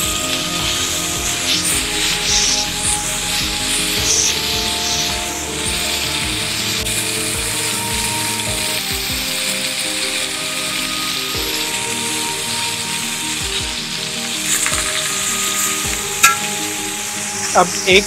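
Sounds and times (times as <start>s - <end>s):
background music: 0.0s - 18.0s
steak sizzling in a pan: 0.0s - 18.0s.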